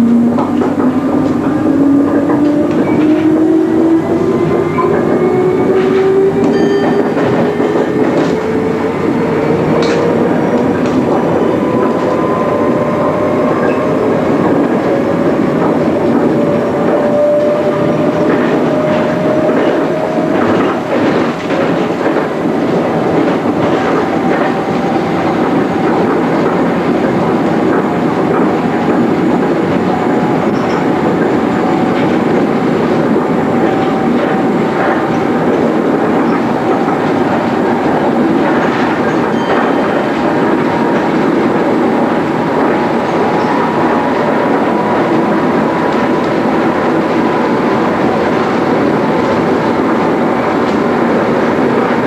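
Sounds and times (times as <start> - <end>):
train running noise: 0.0 - 52.0.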